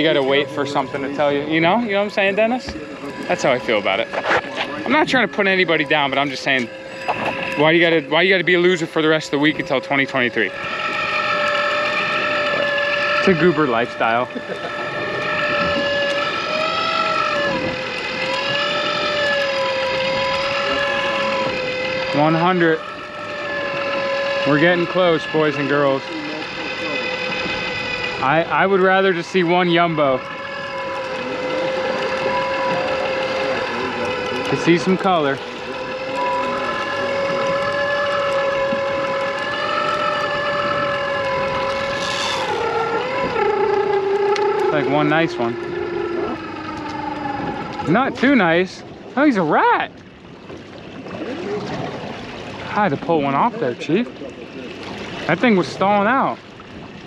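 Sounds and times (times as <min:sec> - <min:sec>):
fishing reel motor whine: 0:00.0 - 0:57.0.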